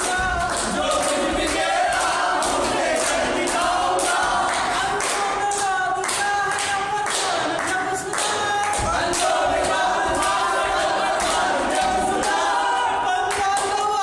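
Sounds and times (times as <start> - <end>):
men singing in chorus: 0.0 - 14.0
rhythmic hand-clapping: 0.0 - 14.0.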